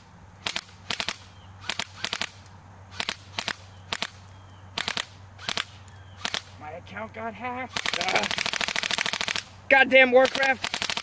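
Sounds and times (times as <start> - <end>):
airsoft rifle shooting clicks: 0.4 - 6.6, 7.7 - 11.0.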